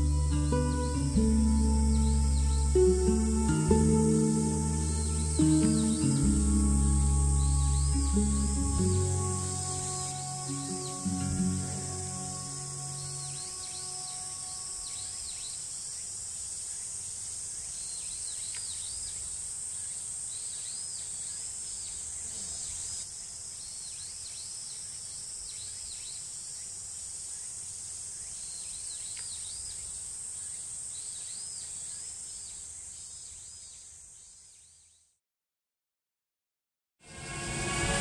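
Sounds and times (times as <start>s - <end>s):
swooping insect calls: 0.0s - 34.7s
insect chorus drone: 0.0s - 35.0s.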